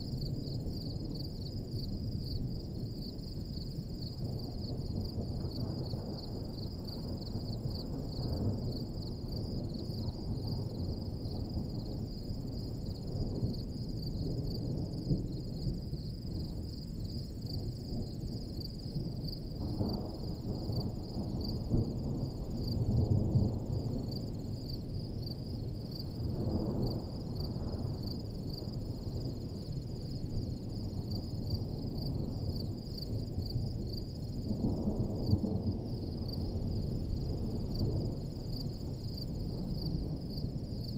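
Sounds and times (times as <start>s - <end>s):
field insects chirring: 0.0s - 40.9s.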